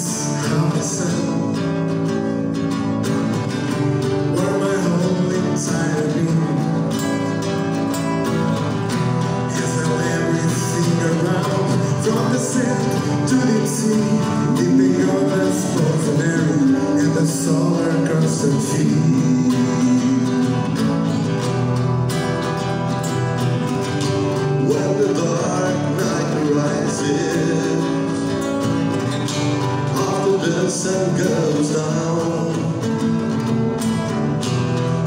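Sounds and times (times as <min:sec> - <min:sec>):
man singing: 0:00.0 - 0:02.3, 0:03.5 - 0:07.9, 0:08.9 - 0:21.6, 0:24.3 - 0:35.0
acoustic guitars strumming: 0:00.0 - 0:35.0.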